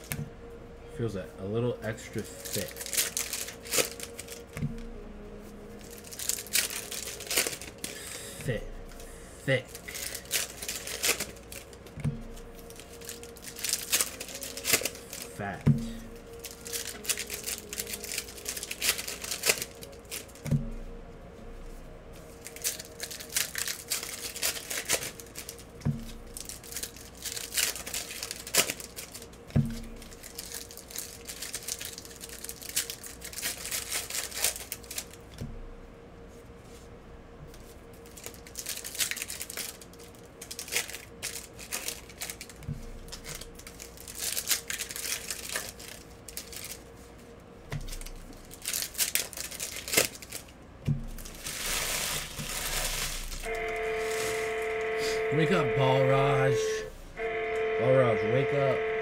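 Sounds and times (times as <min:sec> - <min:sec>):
faint steady hum: 0:00.0 - 0:59.0
wrappers crinkling and tearing: 0:01.8 - 0:20.8, 0:21.4 - 0:35.4, 0:37.5 - 0:56.8
cards rustling: 0:01.9 - 0:04.7, 0:05.7 - 0:20.6, 0:22.1 - 0:35.3, 0:37.5 - 0:56.8.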